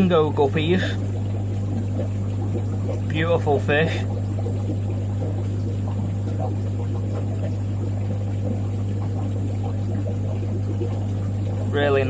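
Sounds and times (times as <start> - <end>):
aquarium equipment hum: 0.0 - 12.0
bubbling and trickling water: 0.0 - 12.0.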